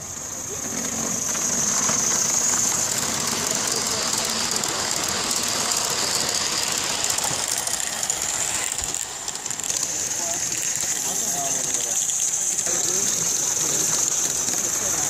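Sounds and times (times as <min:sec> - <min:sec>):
miniature train wheels rattling: 0:00.0 - 0:15.0
steady high hiss: 0:00.0 - 0:15.0.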